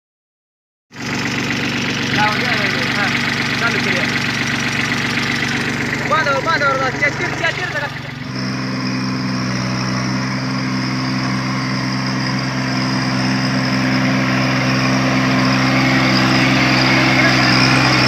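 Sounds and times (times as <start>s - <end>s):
tractor diesel engine running: 0.9s - 18.0s.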